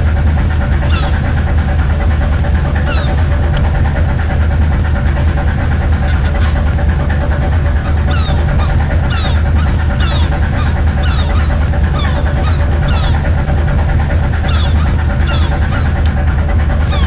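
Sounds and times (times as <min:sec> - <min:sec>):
boat engine running: 0:00.0 - 0:17.0
gulls calling: 0:00.0 - 0:17.0.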